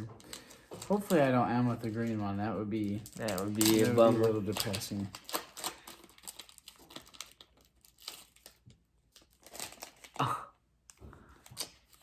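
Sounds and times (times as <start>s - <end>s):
foil wrapper tearing and crinkling: 0.2s - 10.4s.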